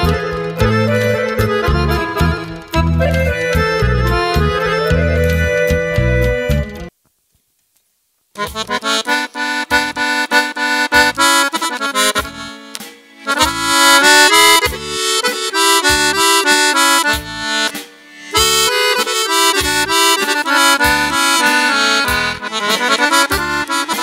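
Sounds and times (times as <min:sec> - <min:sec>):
accordion playing: 0:00.0 - 0:06.9, 0:08.4 - 0:24.0
bass beat: 0:00.0 - 0:06.9, 0:08.4 - 0:24.0.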